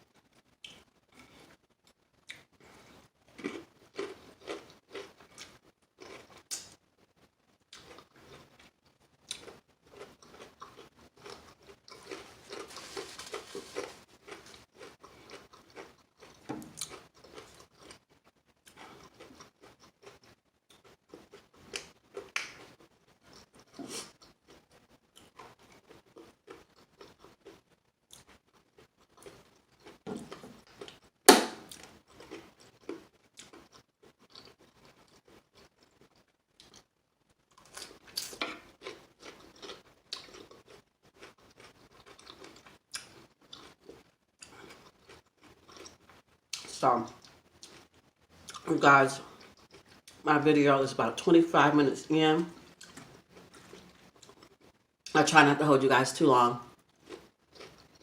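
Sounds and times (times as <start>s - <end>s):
chewing and crunching food: 0.0s - 50.3s, 50.9s - 58.0s.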